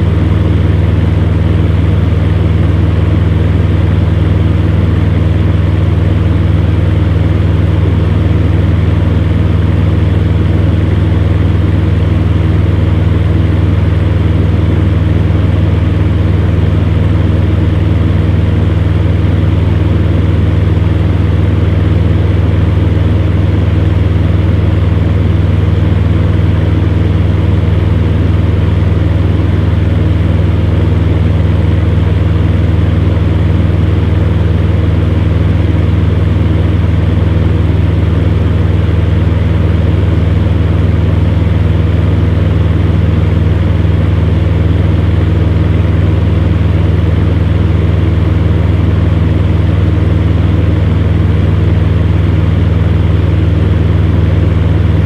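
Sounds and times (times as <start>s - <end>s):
fan heater humming: 0.0s - 55.0s.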